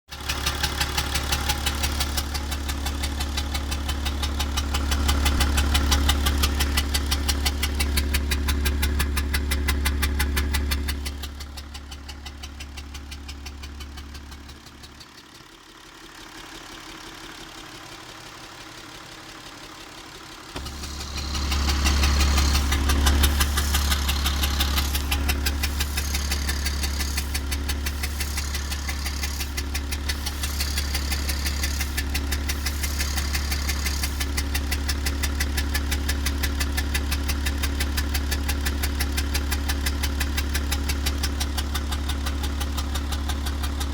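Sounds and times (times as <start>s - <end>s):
diesel engine idling with ticking: 0.1s - 43.9s.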